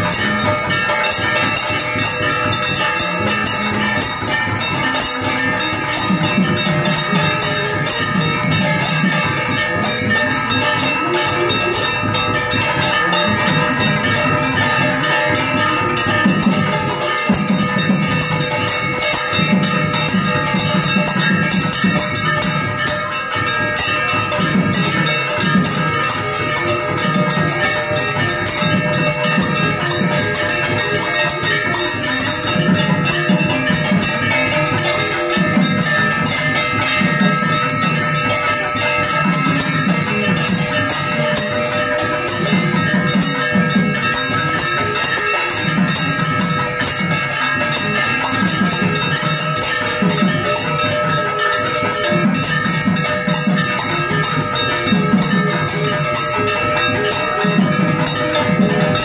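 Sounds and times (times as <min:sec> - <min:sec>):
temple bells ringing: 0:00.0 - 0:59.0.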